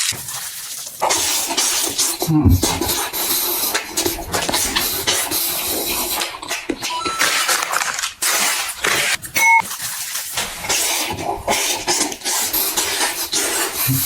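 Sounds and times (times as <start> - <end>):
chewing crisp food: 0.0 - 14.0.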